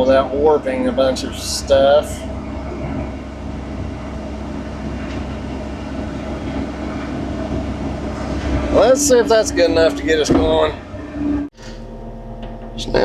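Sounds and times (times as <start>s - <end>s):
skid steer engine running: 0.0s - 13.0s.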